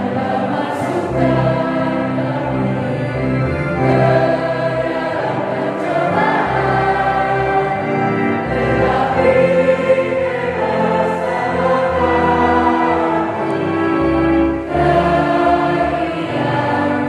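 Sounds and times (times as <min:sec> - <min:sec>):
youth choir singing a hymn: 0:00.0 - 0:17.0.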